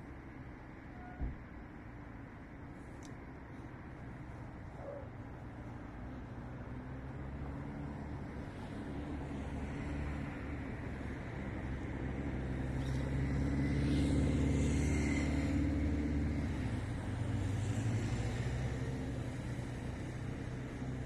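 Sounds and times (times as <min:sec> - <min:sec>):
low engine drone: 0:00.0 - 0:21.0.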